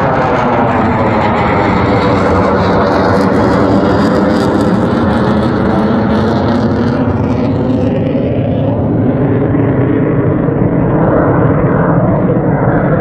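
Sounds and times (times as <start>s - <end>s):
fighter jet roaring past: 0.0s - 13.0s.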